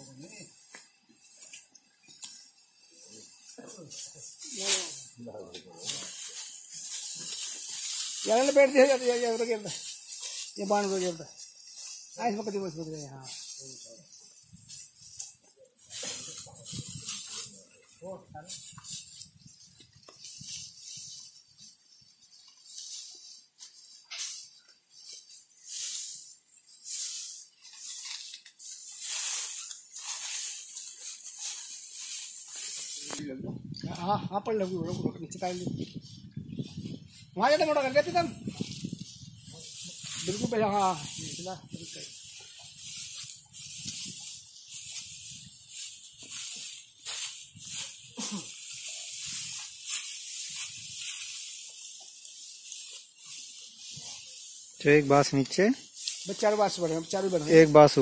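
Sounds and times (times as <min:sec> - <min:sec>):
dry straw rustling: 0:00.0 - 0:58.0.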